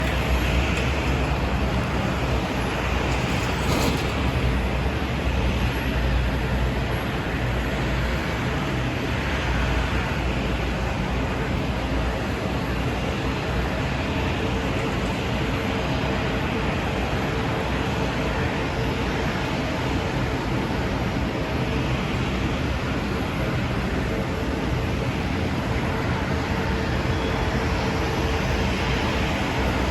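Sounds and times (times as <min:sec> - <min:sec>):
faint steady whine: 0:00.0 - 0:29.9.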